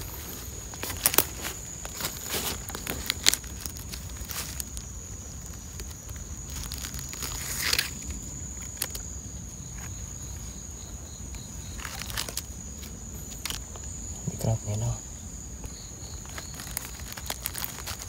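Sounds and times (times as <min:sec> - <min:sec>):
high-pitched insect drone: 0:00.0 - 0:18.0
rustling leaves: 0:00.0 - 0:18.0.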